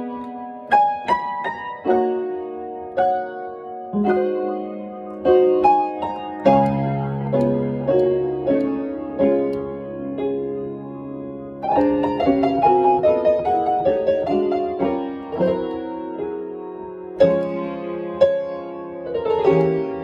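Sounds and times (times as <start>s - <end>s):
stride blues piano: 0.0s - 20.0s.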